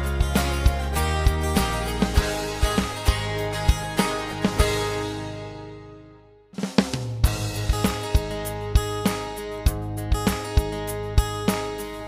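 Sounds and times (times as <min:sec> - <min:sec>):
plucked-string music with beat: 0:00.0 - 0:12.0.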